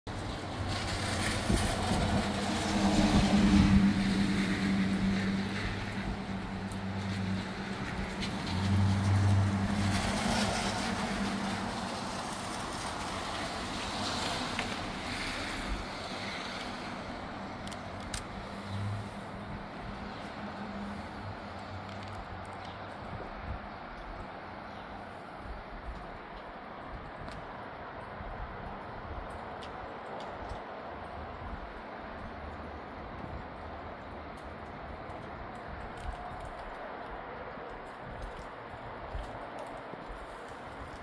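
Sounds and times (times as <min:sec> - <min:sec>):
gusty wind rushing through trees: 0:00.1 - 0:41.0
wind buffeting microphone: 0:00.1 - 0:41.0.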